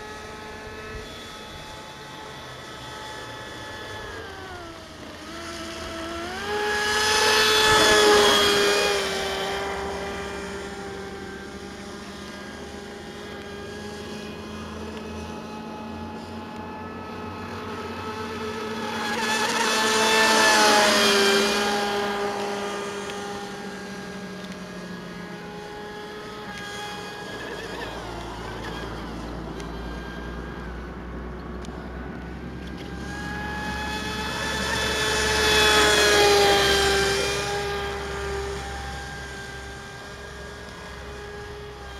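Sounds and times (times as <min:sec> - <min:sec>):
rc boat electric motor whining: 0:00.0 - 0:41.9.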